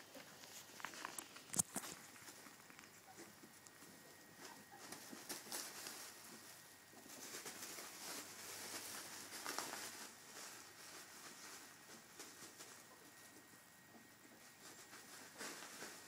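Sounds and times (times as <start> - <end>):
bubble wrap crinkling: 0.0 - 13.2
ferret scrabbling: 0.0 - 16.0.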